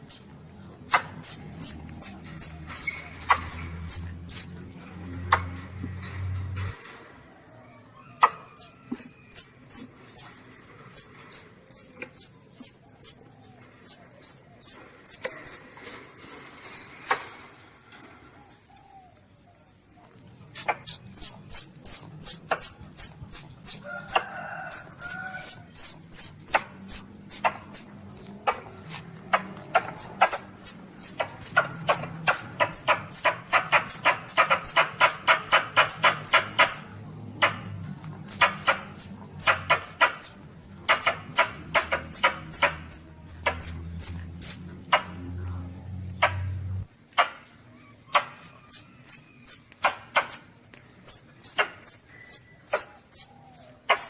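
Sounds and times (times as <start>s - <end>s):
civet high falling squeaks: 0.0s - 4.6s, 8.2s - 17.4s, 20.6s - 44.6s, 48.1s - 54.0s.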